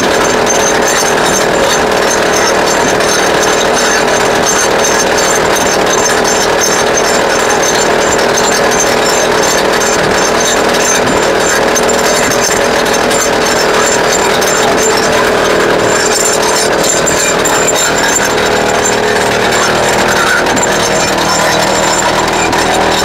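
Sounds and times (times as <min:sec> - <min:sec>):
rock drill hammering: 0:00.0 - 0:23.0.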